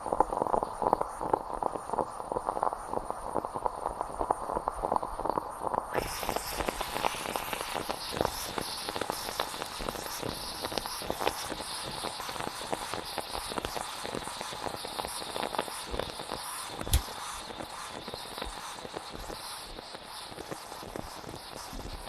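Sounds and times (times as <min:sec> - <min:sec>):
moka pot hiss: 0:00.0 - 0:22.0
moka pot sputtering and gurgling: 0:00.0 - 0:22.0.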